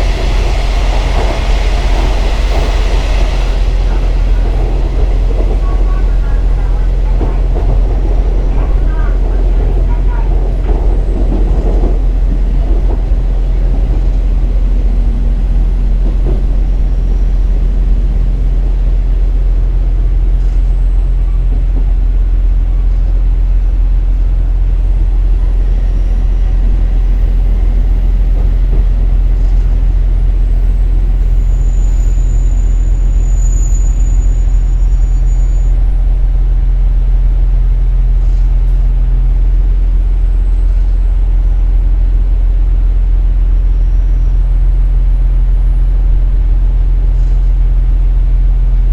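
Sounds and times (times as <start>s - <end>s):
railcar diesel engine rumble: 0.0s - 48.9s.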